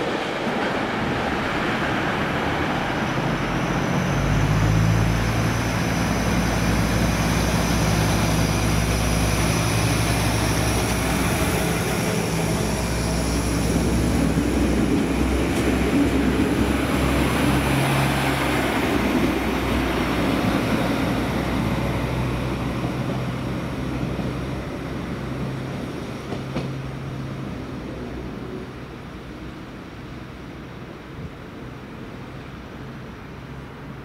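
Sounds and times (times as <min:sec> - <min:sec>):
diesel train engines running: 0:00.0 - 0:34.0
train wheels rolling on rails: 0:00.0 - 0:34.0.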